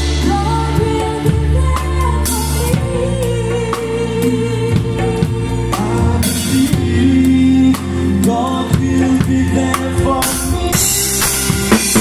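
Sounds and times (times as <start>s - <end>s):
drum kit: 0.0s - 12.0s
hand drums: 0.0s - 12.0s
person singing: 0.0s - 12.0s.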